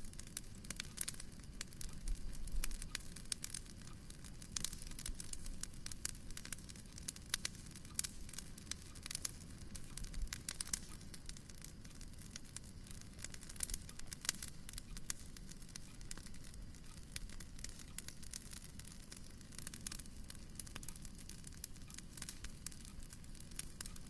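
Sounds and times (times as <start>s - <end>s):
low steady rumble: 0.0s - 24.0s
wood fire crackling: 0.0s - 24.0s.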